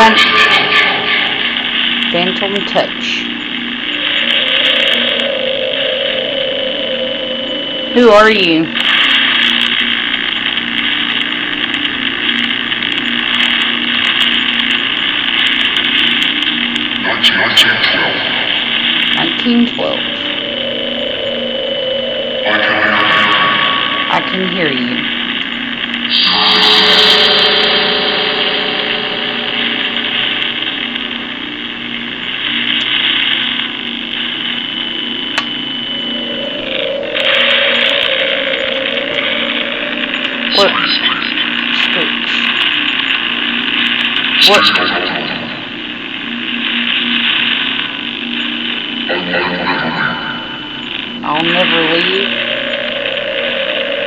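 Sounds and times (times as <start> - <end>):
harsh static hiss: 0.0 - 54.0
low fluttering buzz: 0.0 - 54.0.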